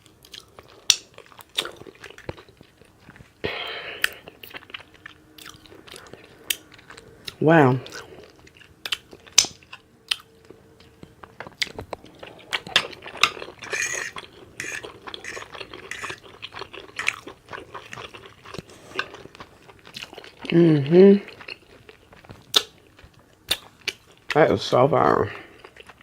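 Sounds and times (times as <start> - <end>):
open-mouthed chewing and lip smacking: 0.0 - 3.4, 4.0 - 24.4.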